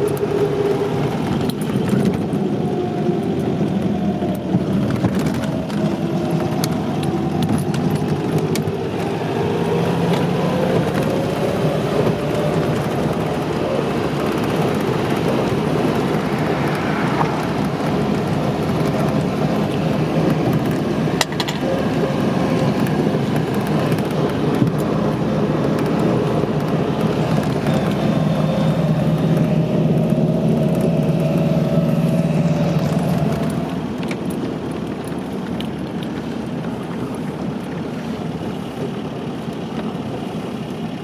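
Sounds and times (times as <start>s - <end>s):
car engine running: 0.0s - 41.0s
road and wind noise: 0.0s - 41.0s.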